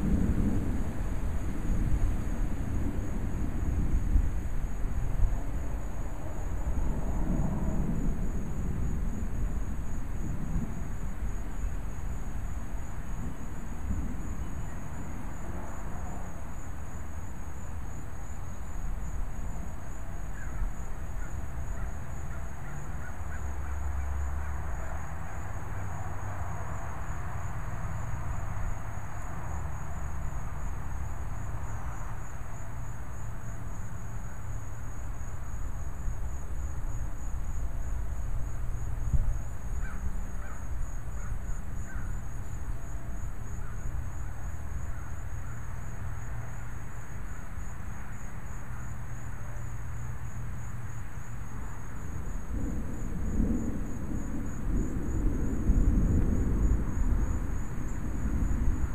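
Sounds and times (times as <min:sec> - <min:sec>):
insect chorus: 0:00.0 - 0:58.9
wind rumble on microphone: 0:00.0 - 0:58.9.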